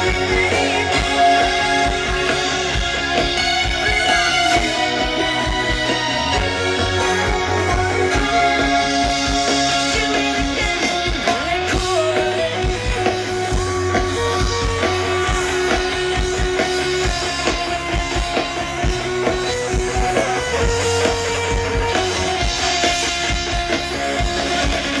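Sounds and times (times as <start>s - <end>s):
drum kit beat: 0.0s - 25.0s
strummed electric guitar: 0.0s - 25.0s.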